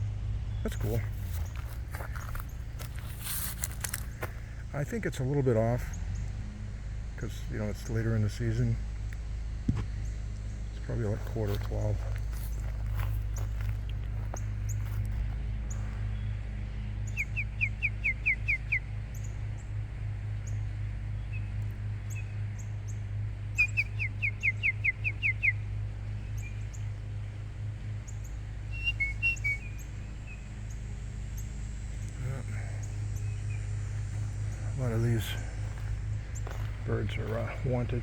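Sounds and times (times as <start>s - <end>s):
songbird singing: 0.0s - 38.0s
steady low hum: 0.0s - 38.0s.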